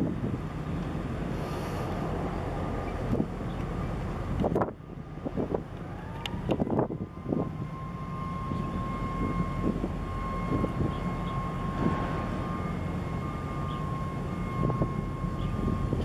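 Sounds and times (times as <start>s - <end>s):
constant high whine: 0.0s - 16.0s
ship engine rumble: 0.0s - 16.0s.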